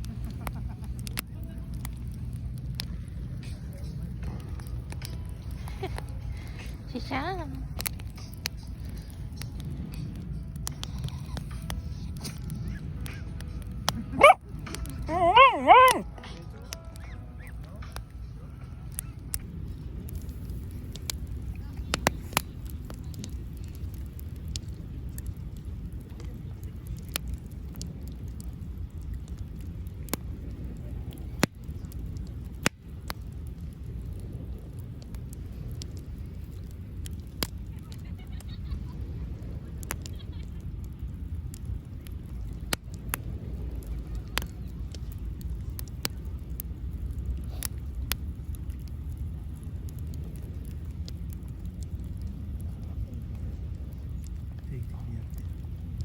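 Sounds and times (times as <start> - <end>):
campfire crackling pops: 0.0 - 56.0
steady low rumble: 0.0 - 56.0.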